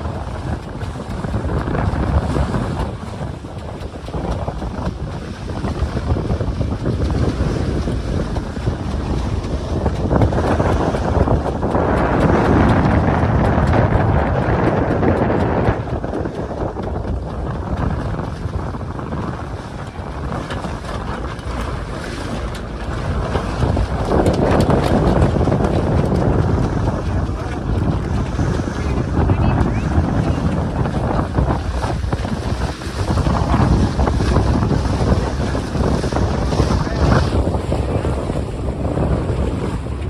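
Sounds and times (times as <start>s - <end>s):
rushing water: 0.0s - 40.0s
wind buffeting the microphone: 0.0s - 40.0s.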